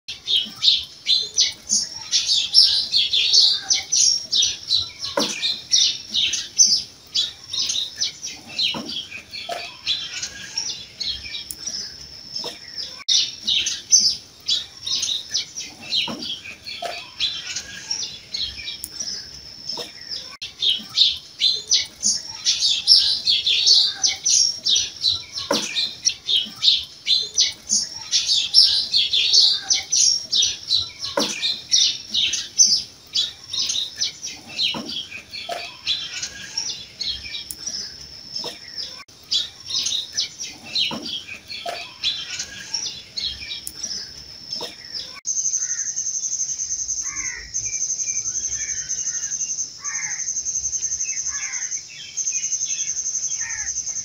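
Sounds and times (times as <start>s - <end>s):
small birds chirping: 0.1s - 54.0s.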